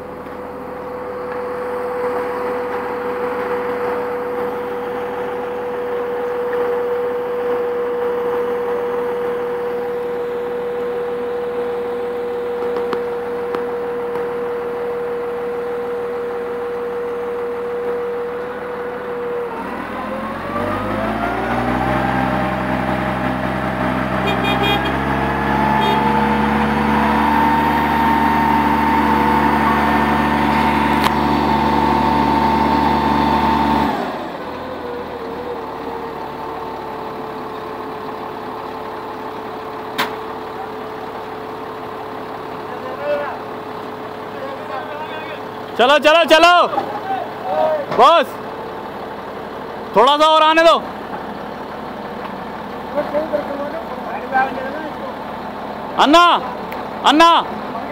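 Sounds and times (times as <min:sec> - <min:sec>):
crane diesel engine idling and revving: 0:00.0 - 0:57.9.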